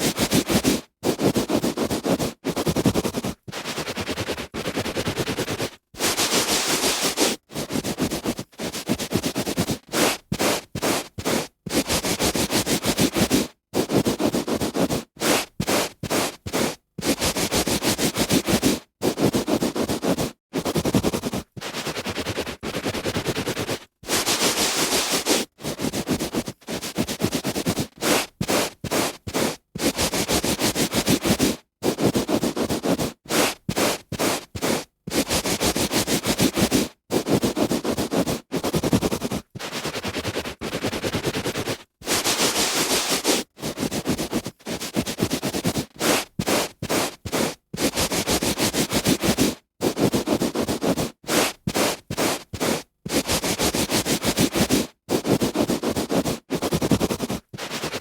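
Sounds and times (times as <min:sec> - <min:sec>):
hand rubbing over carpet: 0:00.1 - 0:58.0.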